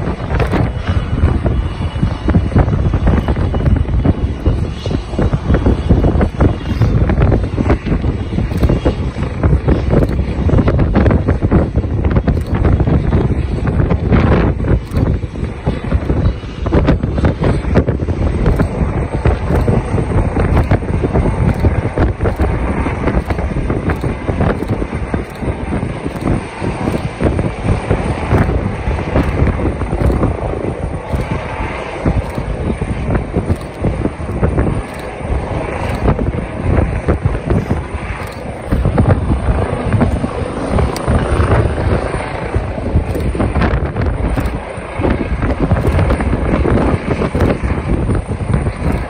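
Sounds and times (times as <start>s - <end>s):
helicopter rotor and turbine: 0.0s - 49.0s
wind buffeting microphone: 0.0s - 49.0s.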